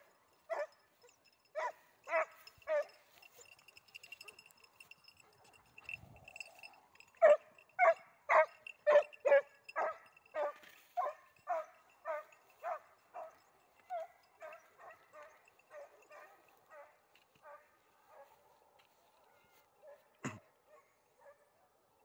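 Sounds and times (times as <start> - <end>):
hunting dog barking: 0.0 - 6.5, 7.1 - 18.6.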